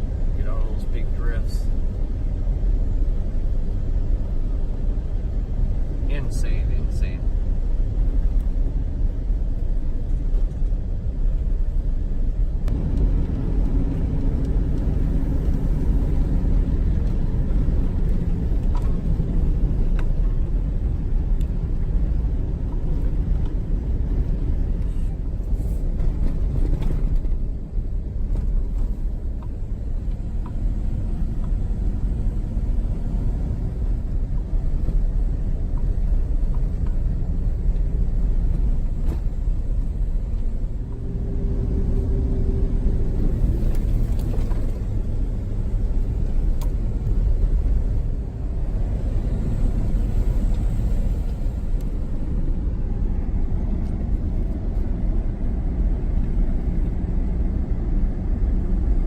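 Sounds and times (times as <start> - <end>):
vehicle cabin road rumble: 0.0 - 59.0.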